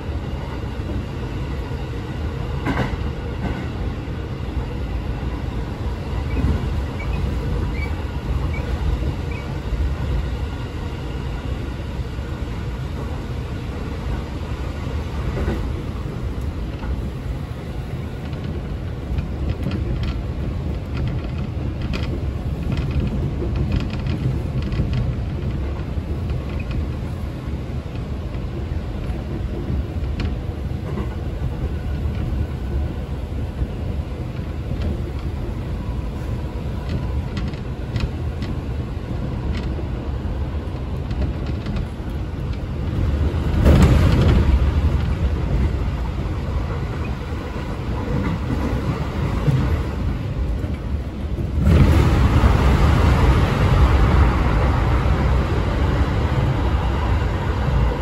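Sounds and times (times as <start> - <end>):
train rumbling along track: 0.0 - 58.0
train rushing noise: 0.0 - 58.0.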